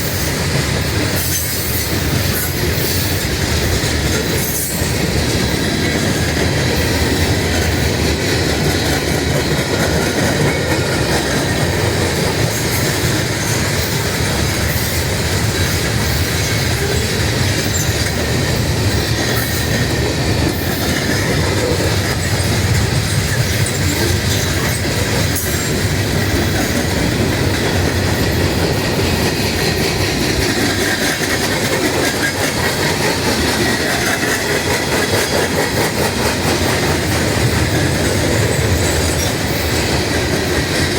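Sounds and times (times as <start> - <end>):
train wheels clattering on rails: 0.0 - 40.9
train wheels squealing: 0.0 - 40.9.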